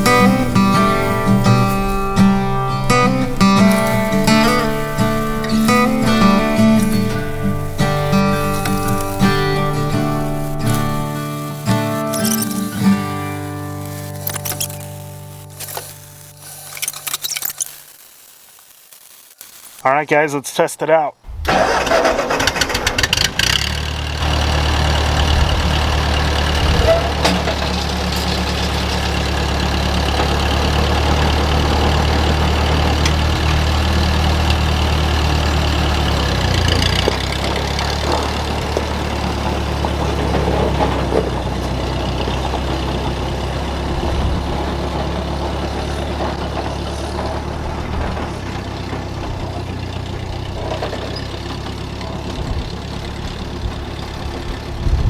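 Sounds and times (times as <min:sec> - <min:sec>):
tractor engine idling: 0:00.0 - 0:17.2, 0:19.8 - 0:55.0.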